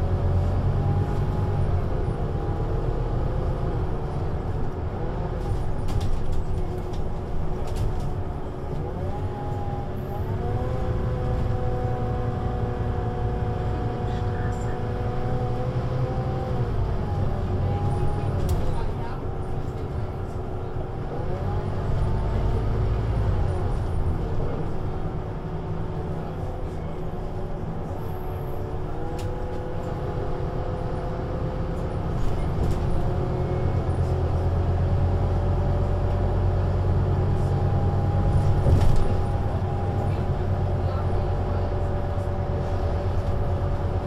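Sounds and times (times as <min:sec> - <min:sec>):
diesel bus engine running: 0:00.0 - 0:44.0.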